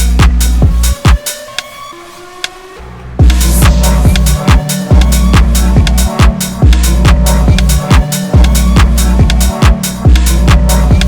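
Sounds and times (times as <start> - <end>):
pounding kick drum: 0.0 - 1.2, 3.2 - 11.0
sustained bass line: 0.0 - 1.2, 3.2 - 11.0
ticking hi-hats: 0.0 - 1.8, 3.2 - 11.0.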